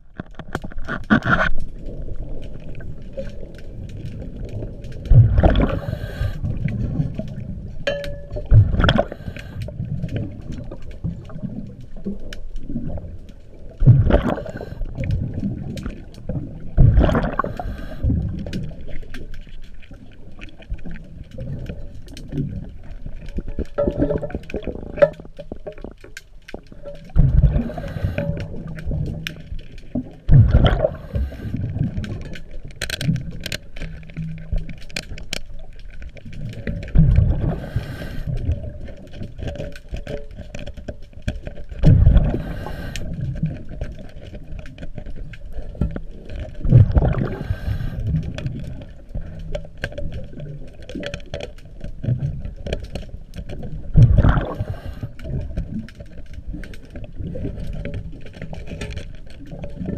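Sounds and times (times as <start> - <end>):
small clicks and scrapes: 0.0 - 59.9
exhaled bubbles gushing: 1.1 - 19.3, 19.9 - 32.6, 36.2 - 39.5, 41.7 - 51.1, 53.6 - 59.9.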